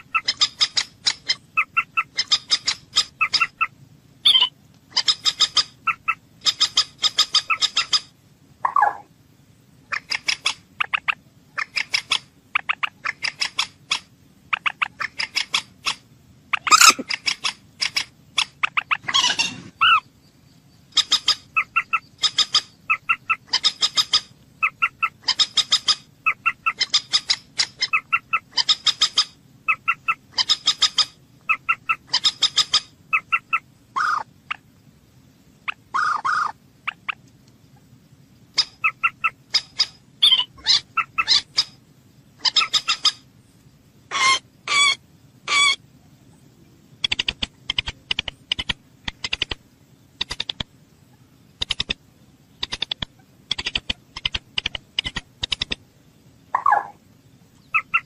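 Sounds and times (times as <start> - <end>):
moorhen calling: 0.0 - 9.1, 9.8 - 34.7, 35.6 - 37.3, 38.5 - 41.8, 42.4 - 43.3, 44.1 - 49.6, 56.4 - 58.0.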